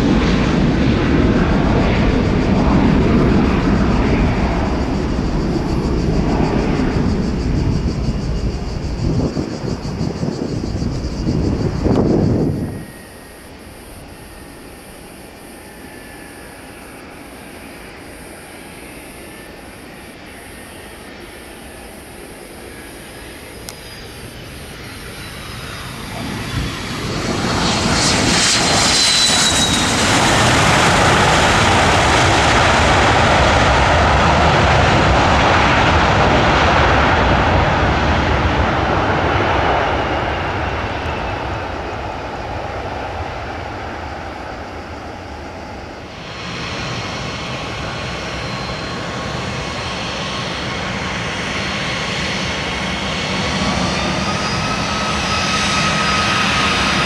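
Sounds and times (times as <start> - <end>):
jet airliner engines passing: 0.0 - 57.0
steady engine noise: 0.0 - 57.0.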